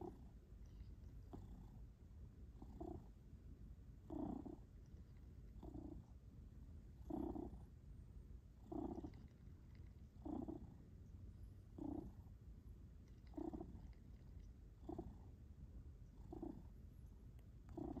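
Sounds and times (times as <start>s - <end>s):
cat purring: 0.0s - 3.2s, 4.0s - 6.2s, 6.8s - 7.8s, 8.4s - 18.0s.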